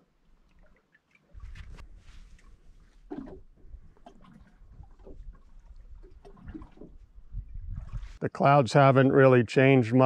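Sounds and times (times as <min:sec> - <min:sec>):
ripples lapping against boat hull: 0:00.0 - 0:08.2.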